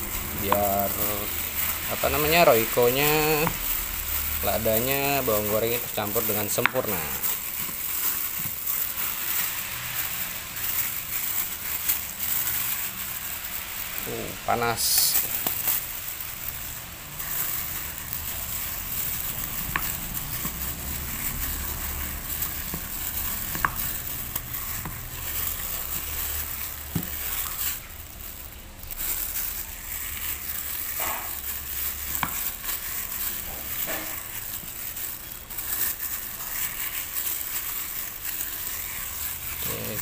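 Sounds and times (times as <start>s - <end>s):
plastic bag crinkling: 0.0s - 40.0s
squishing mashed potato: 0.0s - 40.0s.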